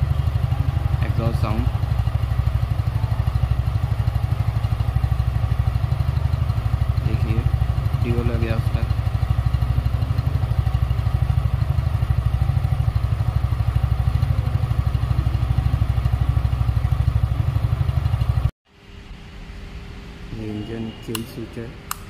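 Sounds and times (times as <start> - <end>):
motorcycle engine idling: 0.0 - 18.5.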